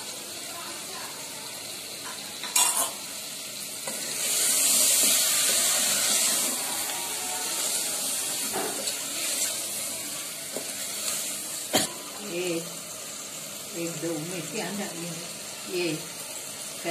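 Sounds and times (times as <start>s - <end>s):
food sizzling in hot oil: 0.0s - 16.9s.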